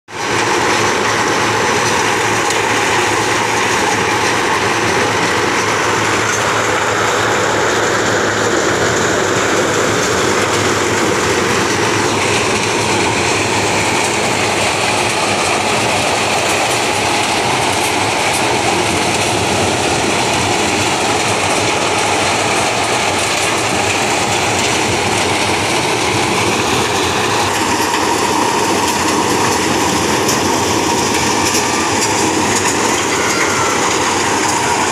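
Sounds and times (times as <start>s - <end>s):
maize thresher running: 0.1s - 34.9s.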